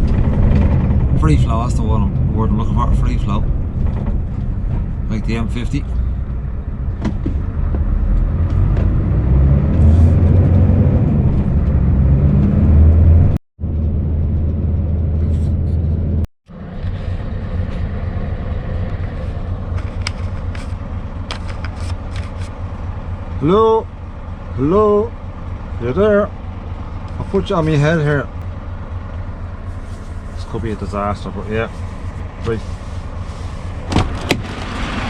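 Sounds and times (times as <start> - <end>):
lorry engine and road rumble: 0.0 - 35.0.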